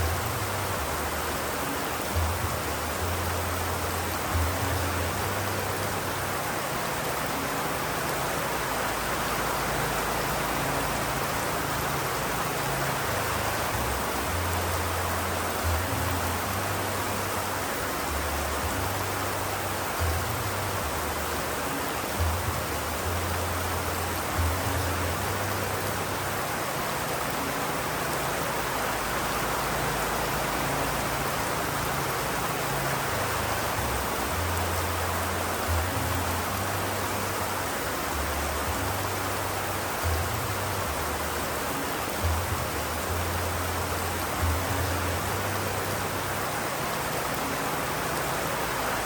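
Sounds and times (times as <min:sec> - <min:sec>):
rain hiss: 0:00.0 - 0:49.0.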